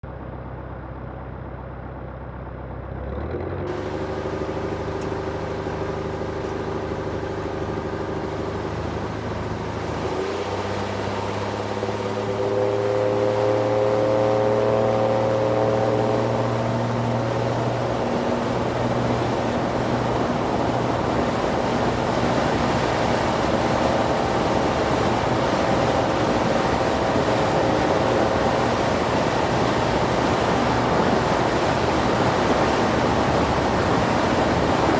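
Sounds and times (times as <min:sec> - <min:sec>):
aircraft engine and propeller: 0:03.7 - 0:34.9
rushing noise: 0:03.7 - 0:34.9.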